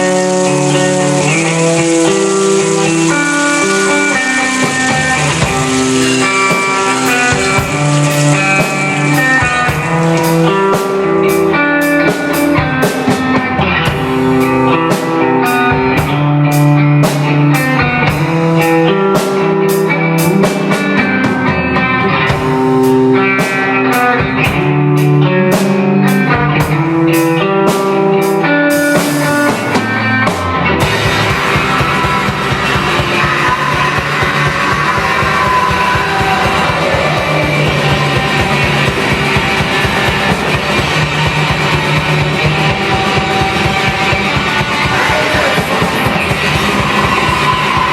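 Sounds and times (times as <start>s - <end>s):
drum kit beating: 0.0s - 47.9s
guitars playing melodic riff: 0.0s - 47.9s.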